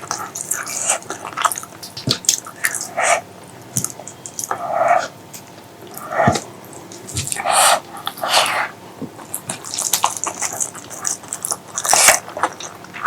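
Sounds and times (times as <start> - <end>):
wet chewing: 0.0 - 5.1, 5.9 - 13.0.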